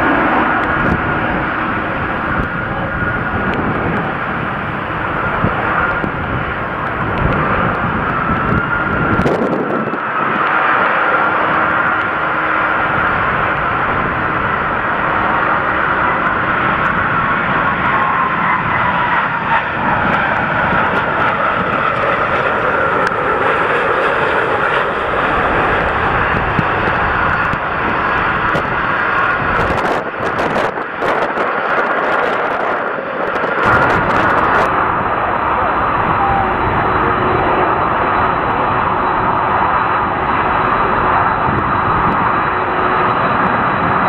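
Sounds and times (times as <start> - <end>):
jet engines rushing and whining: 0.0 - 44.0.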